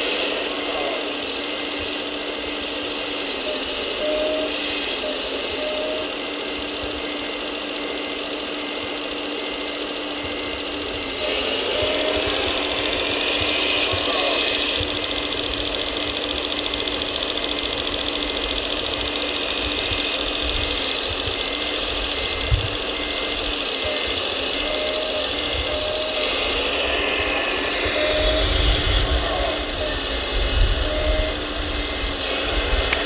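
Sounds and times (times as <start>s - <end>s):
electric hydraulic pump whine: 0.0s - 33.0s.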